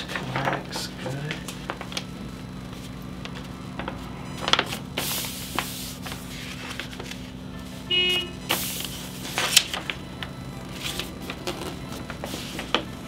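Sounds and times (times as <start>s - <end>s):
paper rustling and sliding: 0.0s - 7.9s, 8.5s - 13.0s
steady low hum: 0.0s - 13.0s.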